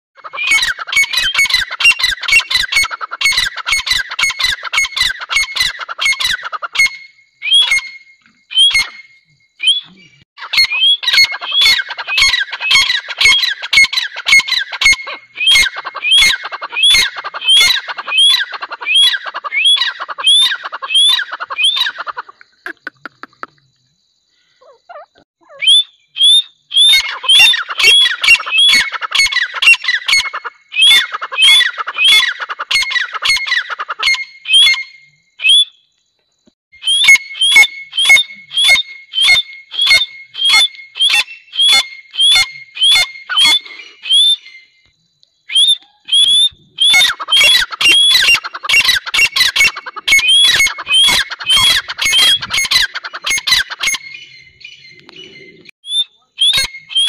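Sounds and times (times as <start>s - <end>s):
francolins calling: 0.2s - 23.6s, 24.3s - 35.9s, 36.8s - 57.0s.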